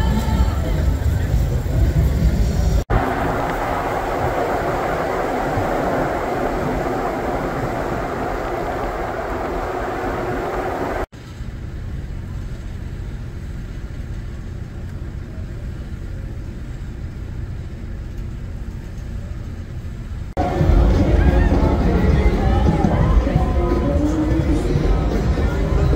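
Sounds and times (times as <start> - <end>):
tyre and road noise: 0.0 - 25.9
steady low rumble: 0.6 - 25.9.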